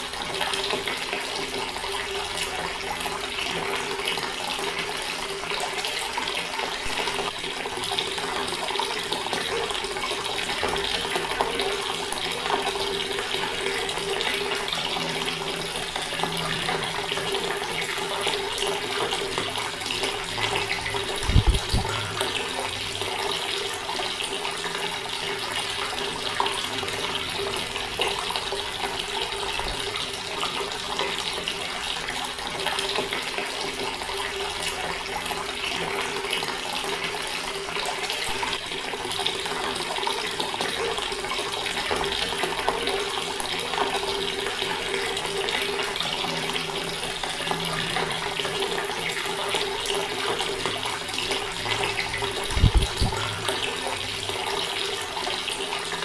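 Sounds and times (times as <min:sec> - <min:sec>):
water tap running: 0:00.0 - 0:56.0.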